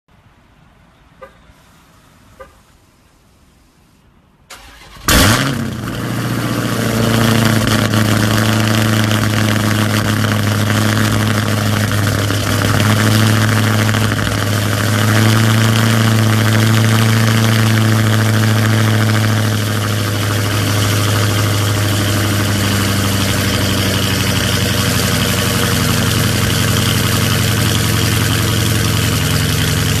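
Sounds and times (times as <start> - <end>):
car engine starting and idling: 4.4 - 30.0.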